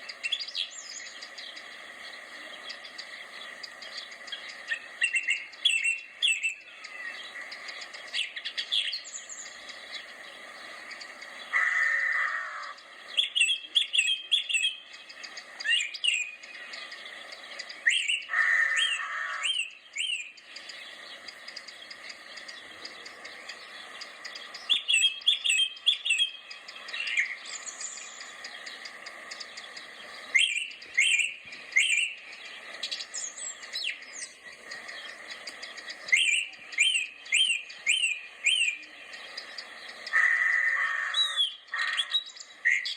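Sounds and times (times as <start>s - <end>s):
birds chirping: 0.0s - 42.9s
buzzy bird call: 0.0s - 42.9s
steady background hiss: 0.0s - 42.9s.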